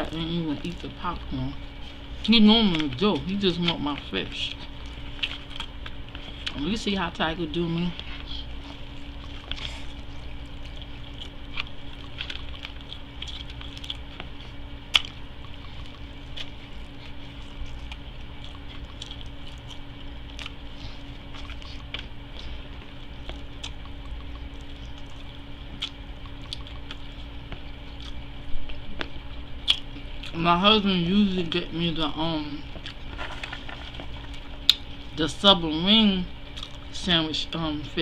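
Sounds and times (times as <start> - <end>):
wet chewing and mouth sounds: 0.0 - 30.8, 31.4 - 35.7, 36.3 - 38.0
low hum: 0.0 - 38.0.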